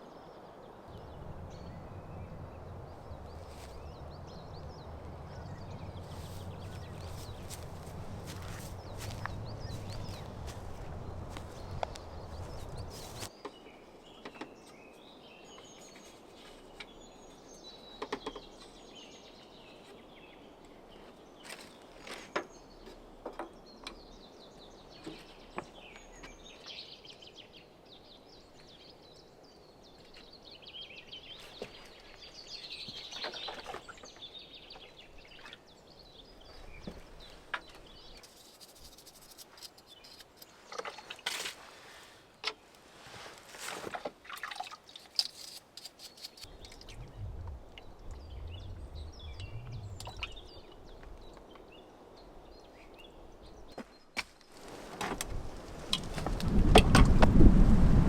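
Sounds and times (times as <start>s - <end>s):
small birds chirping: 0.0s - 41.2s, 44.6s - 55.4s
faint outdoor background noise: 0.0s - 58.0s.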